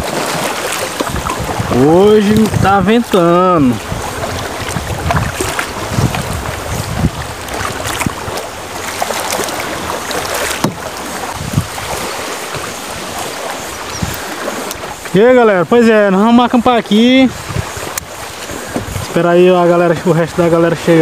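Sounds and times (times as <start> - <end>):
paddle splashes: 0.0 - 21.0
water lapping against kayak hull: 0.0 - 21.0
wind noise on microphone: 0.0 - 21.0.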